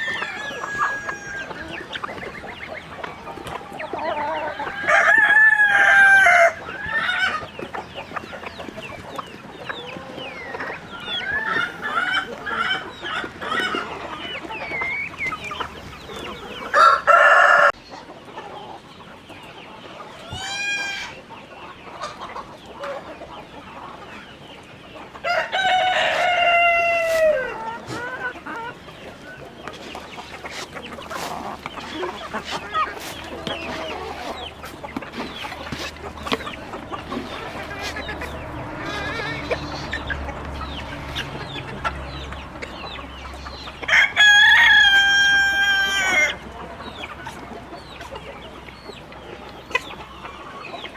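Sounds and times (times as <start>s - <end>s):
roosters crowing: 0.0s - 17.8s, 20.1s - 21.3s, 25.1s - 50.9s
chickens clucking: 0.0s - 50.9s.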